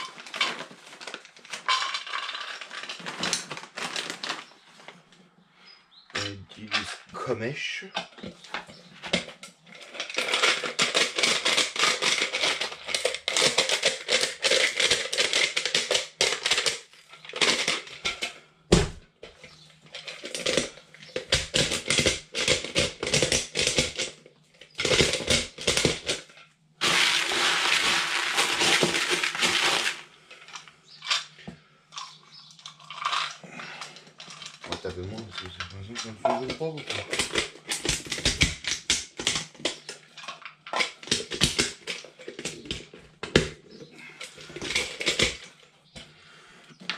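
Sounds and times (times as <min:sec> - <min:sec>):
dry pellets rattling in plastic bucket: 0:00.0 - 0:04.6, 0:08.8 - 0:18.3, 0:19.5 - 0:45.5.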